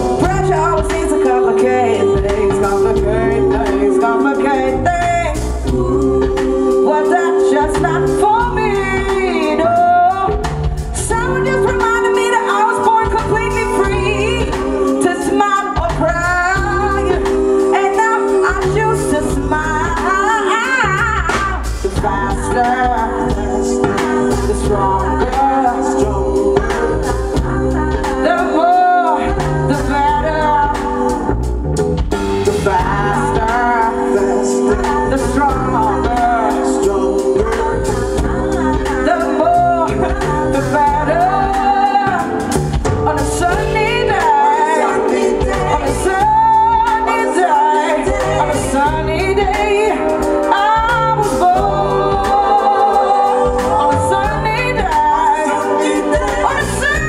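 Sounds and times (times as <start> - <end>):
woman singing: 0.0 - 31.5, 32.5 - 57.0
live band playing: 0.0 - 57.0.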